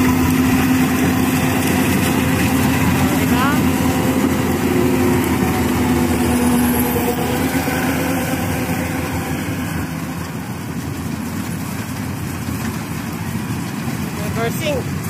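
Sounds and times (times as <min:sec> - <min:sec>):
combine harvester diesel engine: 0:00.0 - 0:15.0.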